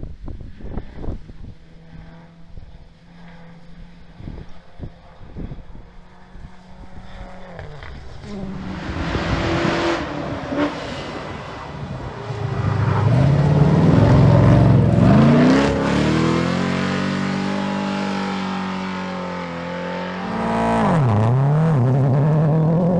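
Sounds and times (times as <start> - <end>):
rally car engine accelerating: 0.0 - 22.9.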